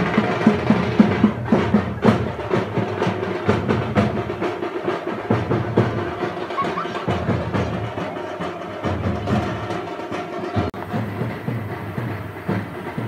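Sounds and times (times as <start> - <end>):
music with fast loud drumming: 0.0 - 13.0.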